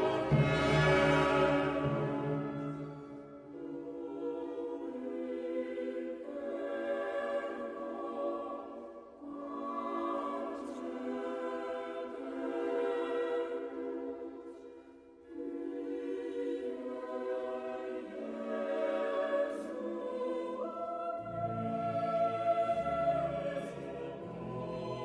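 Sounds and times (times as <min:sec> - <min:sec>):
slow choir-like chords: 0:00.0 - 0:25.0.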